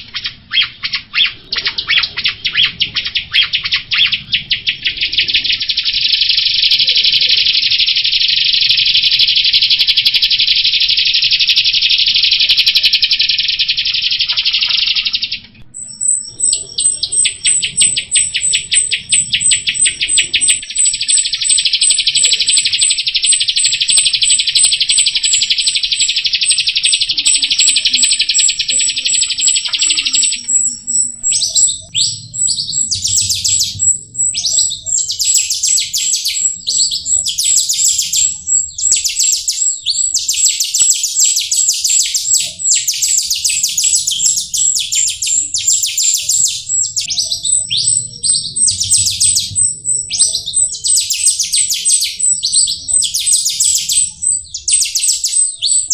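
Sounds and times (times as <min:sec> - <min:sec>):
bird buzzy chattering song: 0:00.0 - 0:55.9.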